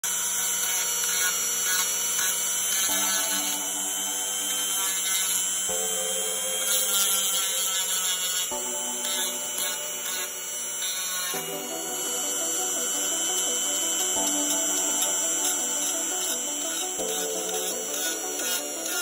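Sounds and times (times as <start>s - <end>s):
rotary tool sanding ceramic: 0.0s - 19.0s
background music with held chords: 2.8s - 19.0s.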